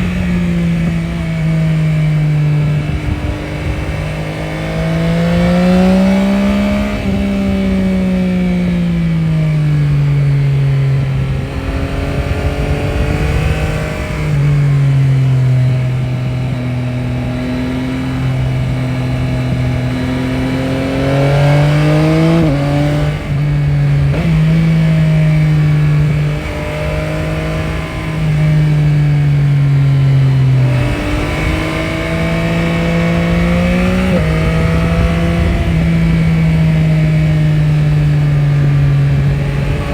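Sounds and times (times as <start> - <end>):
motorcycle engine revving: 0.0 - 39.9
wind or road noise: 0.0 - 39.9.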